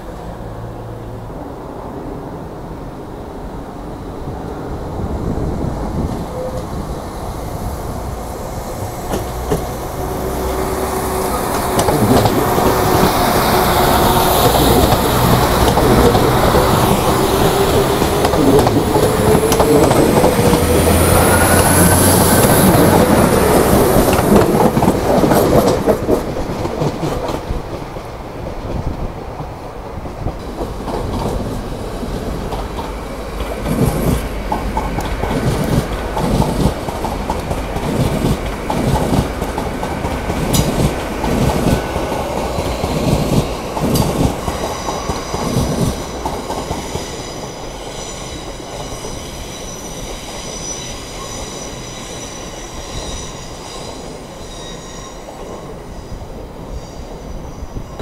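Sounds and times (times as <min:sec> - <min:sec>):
train wheels clicking on rails: 0:05.9 - 0:57.3.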